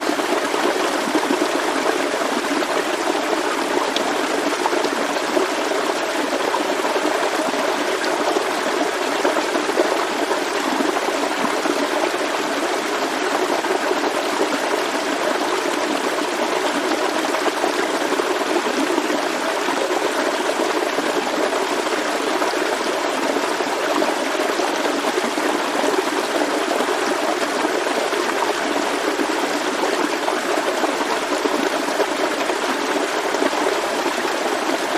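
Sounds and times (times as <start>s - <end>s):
forest stream trickling: 0.0s - 34.9s.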